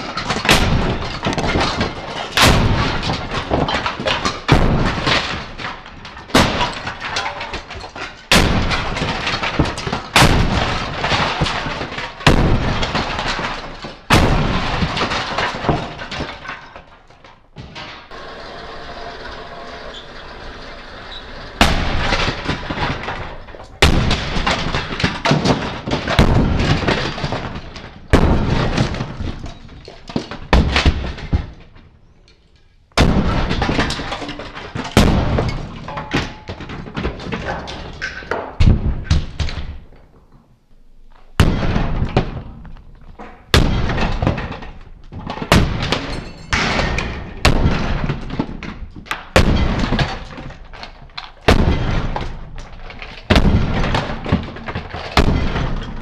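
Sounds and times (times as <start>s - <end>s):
plastic toy trains being smashed: 0.0s - 40.2s, 41.3s - 56.0s.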